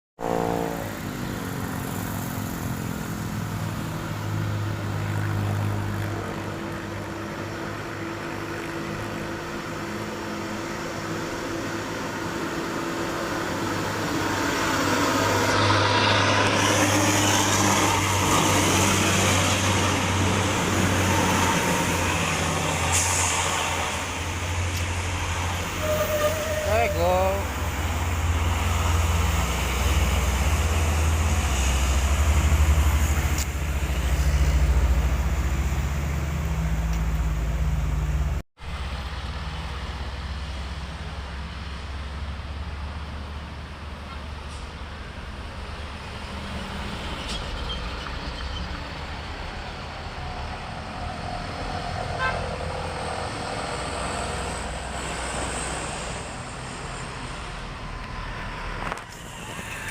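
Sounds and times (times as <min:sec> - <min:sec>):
road traffic noise: 0:00.2 - 0:59.9
truck diesel engine labouring: 0:00.2 - 0:59.9.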